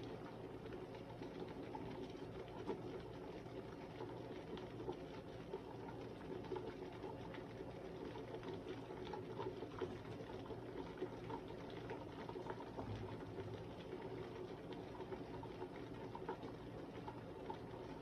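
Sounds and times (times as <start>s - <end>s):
soup bubbling and popping: 0.0s - 18.0s.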